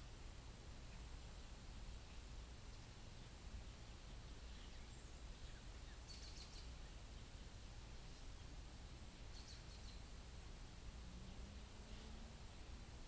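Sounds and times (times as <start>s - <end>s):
faint low steady rumble: 0.0s - 13.0s
distant birds chirping: 0.8s - 12.4s.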